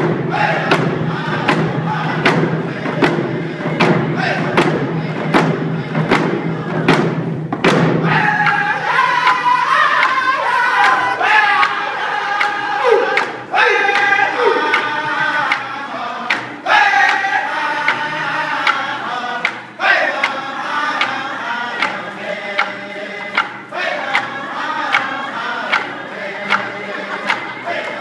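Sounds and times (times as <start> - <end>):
group singing in unison: 0.0 - 28.0
steady drum beat: 0.0 - 28.0.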